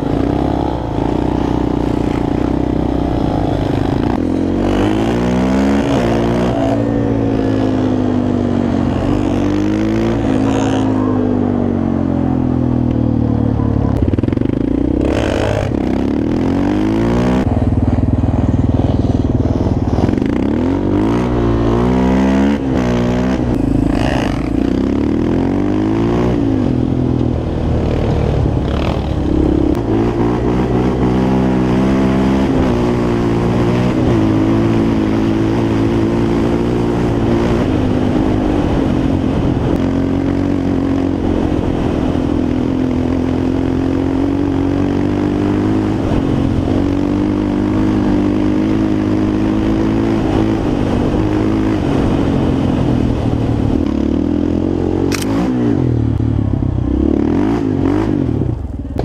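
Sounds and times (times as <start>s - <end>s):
quad engine revving: 0.0s - 56.3s.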